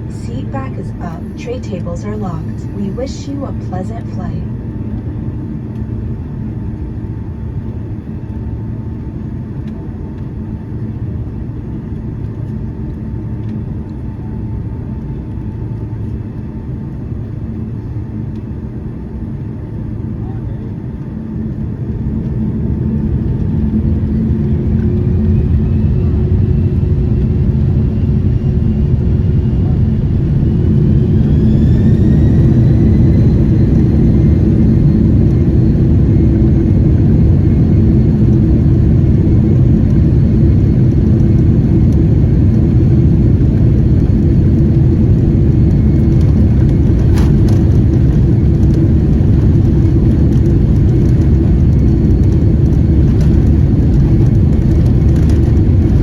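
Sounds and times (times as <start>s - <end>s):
jet engine whine rising: 0.0s - 56.0s
jet engines rumbling in cabin: 0.0s - 56.0s.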